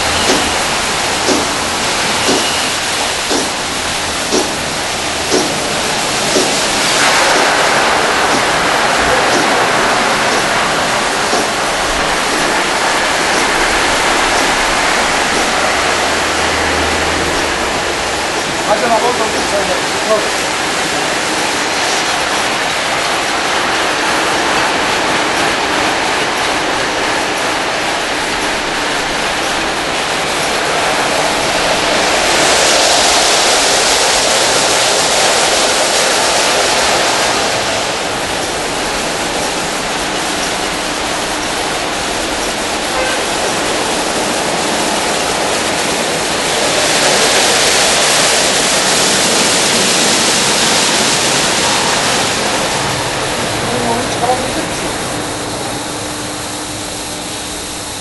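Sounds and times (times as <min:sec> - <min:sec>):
water spray: 0:00.0 - 0:26.1, 0:26.7 - 0:54.4
rotating brush machinery: 0:00.0 - 0:58.0.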